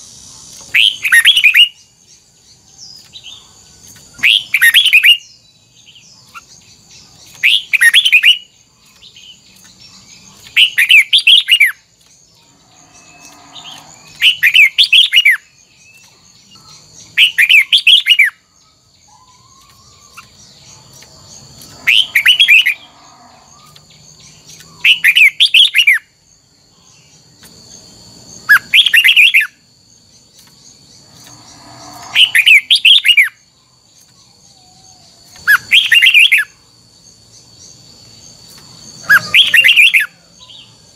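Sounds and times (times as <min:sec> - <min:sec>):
bird singing warbled phrases: 0:00.0 - 0:40.9.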